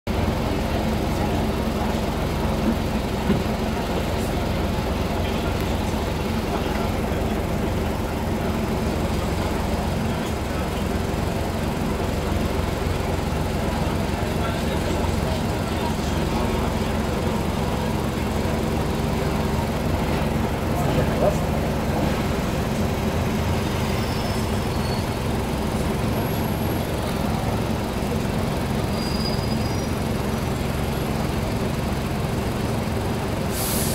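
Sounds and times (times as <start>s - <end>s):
bus diesel engine idling: 0.1s - 33.9s.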